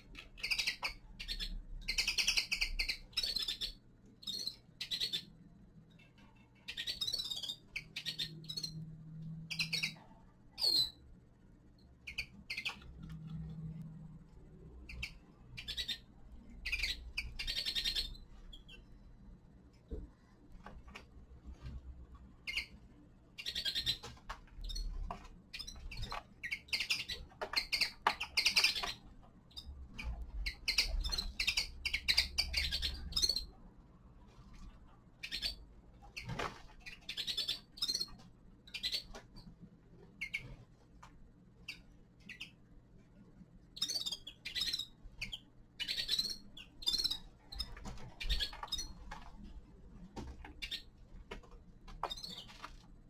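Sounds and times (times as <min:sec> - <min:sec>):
finches chirping and twittering: 0:00.0 - 0:19.1, 0:22.4 - 0:33.6, 0:34.6 - 0:40.7, 0:41.6 - 0:42.6, 0:43.7 - 0:49.4, 0:50.4 - 0:51.0, 0:51.9 - 0:52.8.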